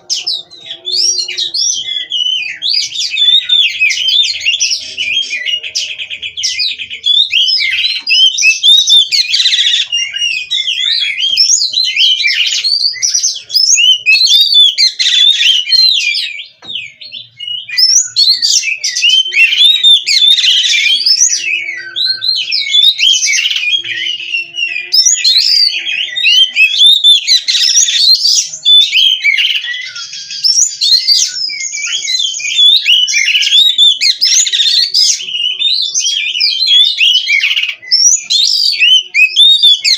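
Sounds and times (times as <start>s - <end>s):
songbird whistling varied phrases: 0.0s - 39.9s.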